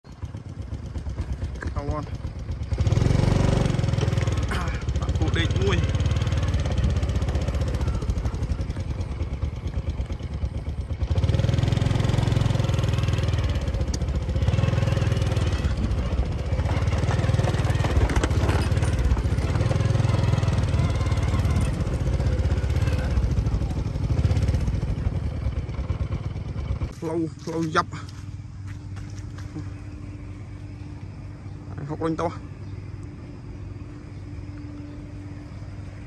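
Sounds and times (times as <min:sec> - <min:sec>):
motorcycle engine under load: 0:00.0 - 0:31.6.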